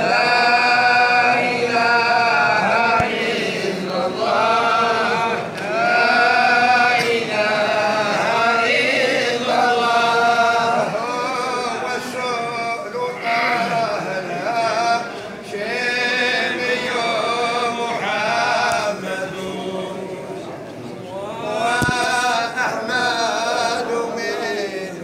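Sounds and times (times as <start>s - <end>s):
men chanting together: 0.0s - 20.0s, 21.2s - 25.0s.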